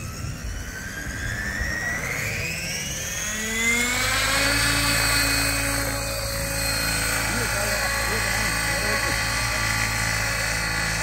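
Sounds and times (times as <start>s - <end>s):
electric motor whine: 0.0s - 11.0s
low rotor thrum: 0.5s - 11.0s.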